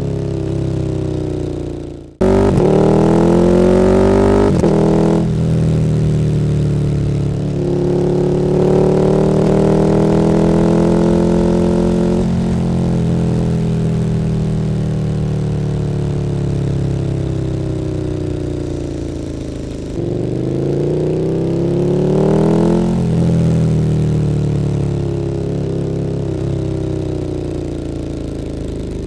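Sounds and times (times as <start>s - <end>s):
motorcycle engine: 0.0s - 29.0s.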